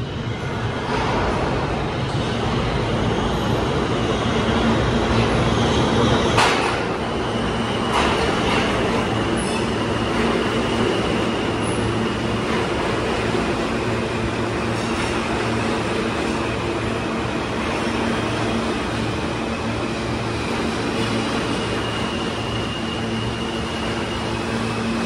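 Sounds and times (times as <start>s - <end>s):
subway train rumbling on rails: 0.0s - 25.0s.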